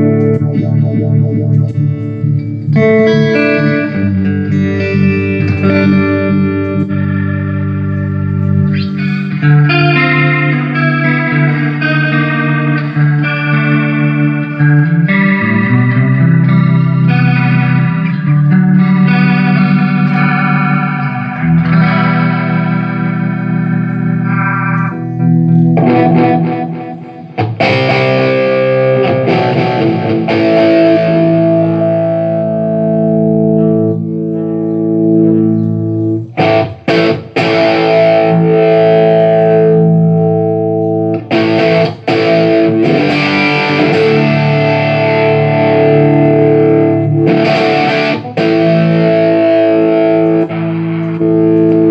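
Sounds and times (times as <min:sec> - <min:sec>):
electric guitar chords: 0:00.0 - 0:51.9.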